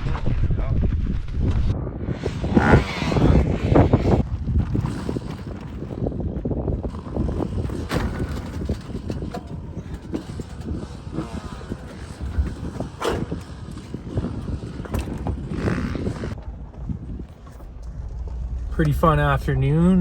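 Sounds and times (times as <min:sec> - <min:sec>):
vehicle engine rumbling: 0:00.0 - 0:20.0
knocks and rattles: 0:02.6 - 0:19.0.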